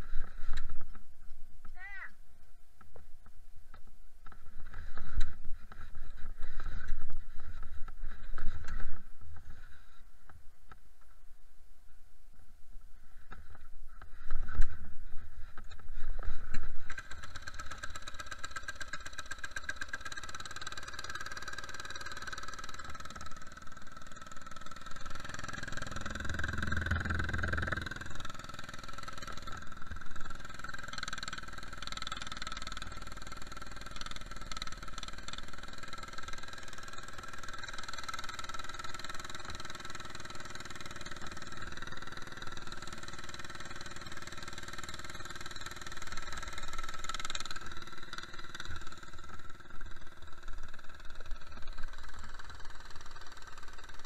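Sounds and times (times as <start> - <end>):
go-kart engine running: 4.2 - 10.3, 13.1 - 54.0.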